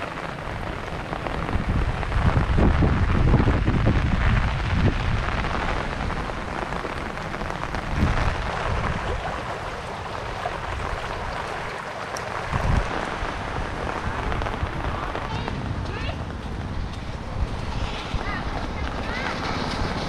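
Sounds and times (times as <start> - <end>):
heavy rain falling: 0.0 - 20.0
wind rumbling on microphone: 0.0 - 20.0.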